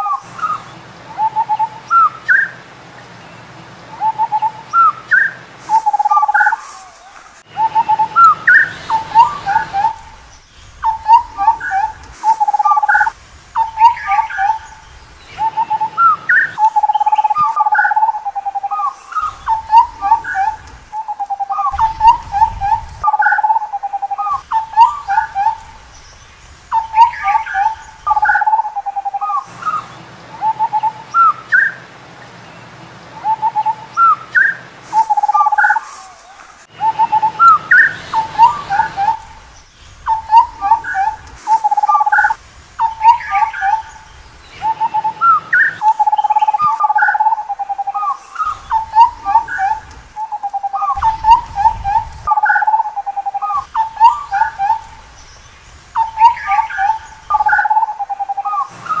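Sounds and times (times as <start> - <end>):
birds calling with fluty whistles: 0.0 - 59.0.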